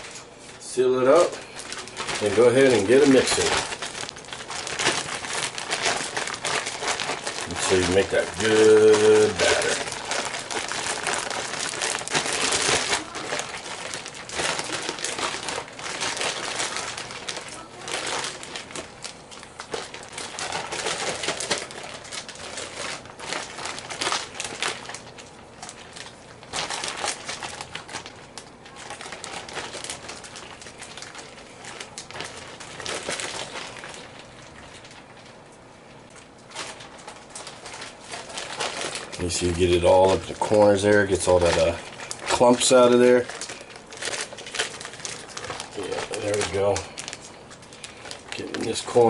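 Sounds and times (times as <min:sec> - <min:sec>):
plastic bag crinkling: 0:00.0 - 0:49.0.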